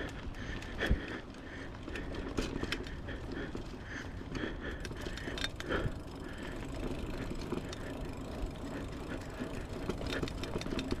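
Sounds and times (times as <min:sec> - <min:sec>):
bike clicks and rattles: 0:00.0 - 0:11.0
bike tyres rumbling on dirt: 0:00.0 - 0:11.0.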